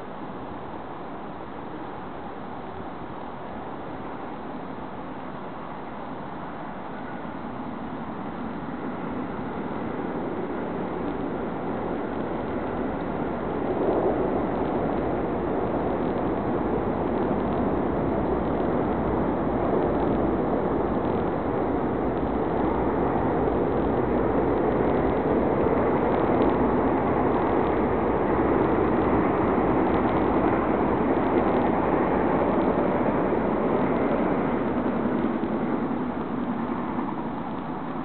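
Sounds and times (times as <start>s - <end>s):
distant road traffic: 0.0s - 38.0s.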